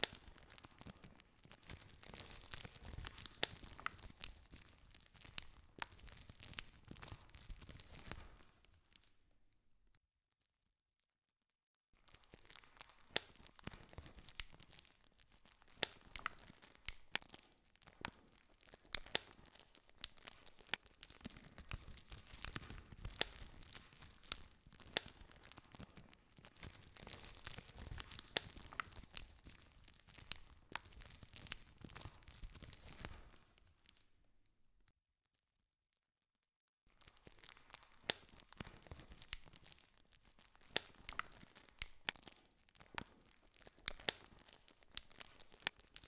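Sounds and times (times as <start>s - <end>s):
campfire popping and snapping: 0.0s - 9.0s, 12.1s - 34.0s, 37.0s - 46.0s.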